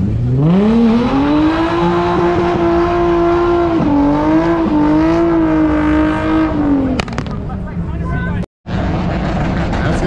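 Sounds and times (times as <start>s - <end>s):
car engine at full throttle: 0.0s - 8.0s, 8.7s - 10.0s.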